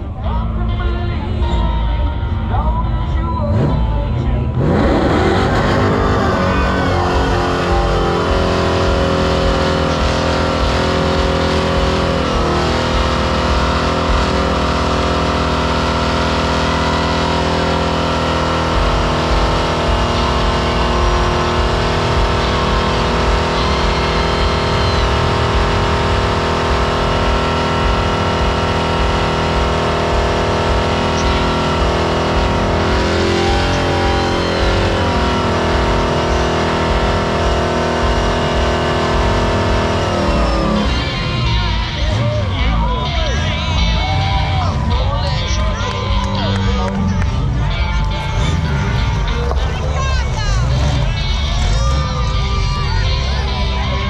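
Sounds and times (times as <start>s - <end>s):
truck engine revving high: 0.0s - 54.0s.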